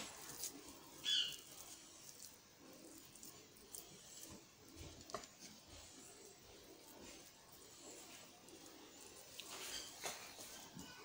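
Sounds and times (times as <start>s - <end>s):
fingers squishing soft food: 0.0s - 11.0s.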